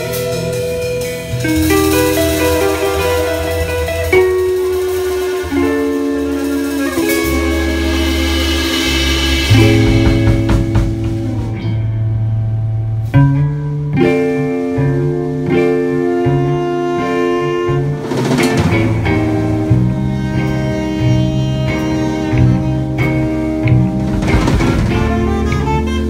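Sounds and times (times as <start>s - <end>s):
saxophone: 0.0s - 11.8s, 14.7s - 26.0s
electric bass line: 0.0s - 26.0s
electric guitar: 0.0s - 26.0s.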